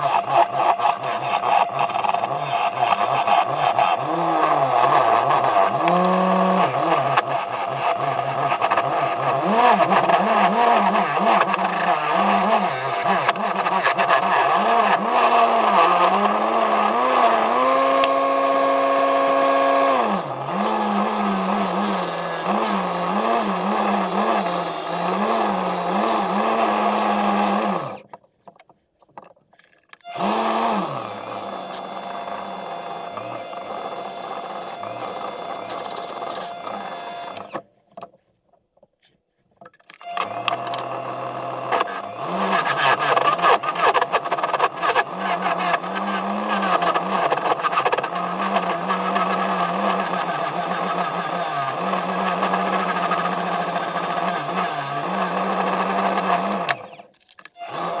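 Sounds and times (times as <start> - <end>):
gouge cutting into wood: 0.0 - 28.1, 30.1 - 37.6, 40.0 - 58.0
wood lathe motor running: 0.0 - 28.1, 30.0 - 37.6, 40.0 - 58.0.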